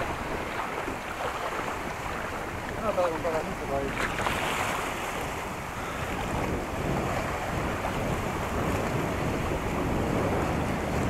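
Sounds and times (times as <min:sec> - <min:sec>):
rush of small waves: 0:00.0 - 0:11.0
wind buffeting microphone: 0:00.0 - 0:11.0.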